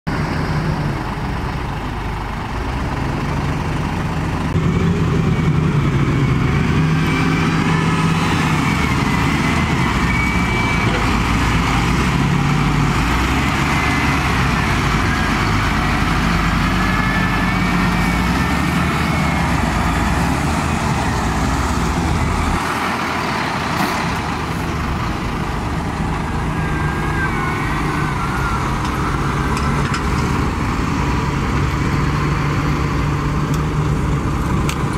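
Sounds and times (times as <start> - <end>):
heavy diesel engines running: 0.1 - 34.9.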